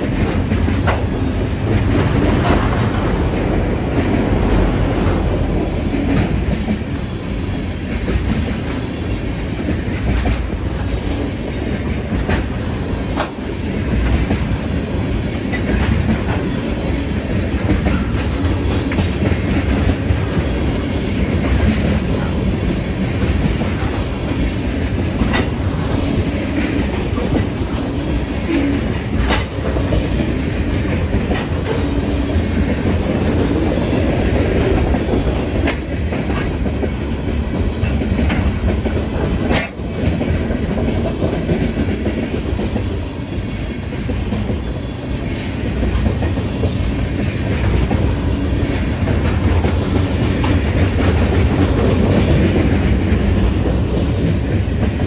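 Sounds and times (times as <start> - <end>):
steel wheels on rail: 0.0 - 55.0.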